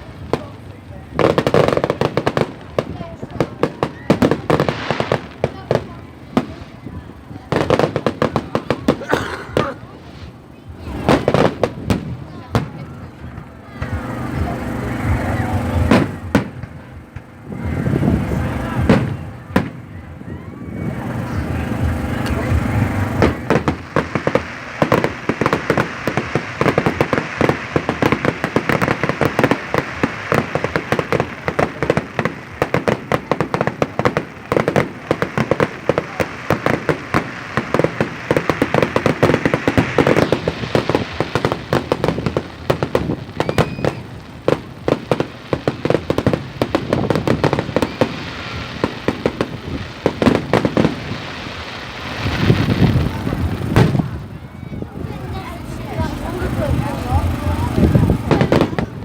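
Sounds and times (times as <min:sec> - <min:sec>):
fireworks crackling bangs: 0:00.0 - 0:59.0.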